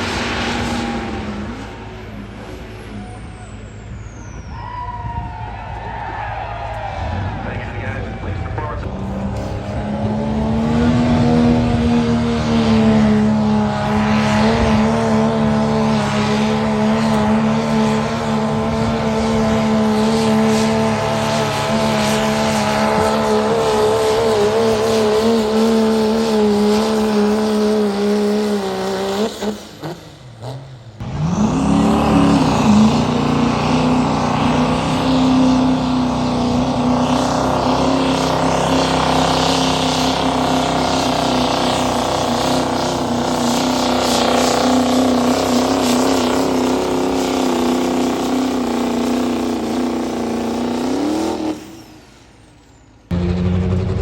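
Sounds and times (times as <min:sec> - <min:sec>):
truck engine at high revs: 0:00.0 - 0:54.0.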